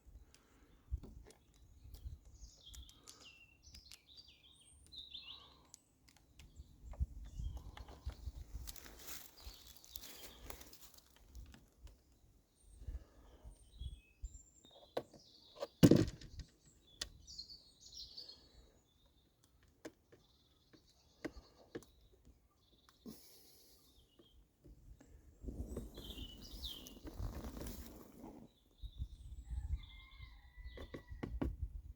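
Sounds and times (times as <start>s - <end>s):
small birds chirping: 0.0s - 31.2s.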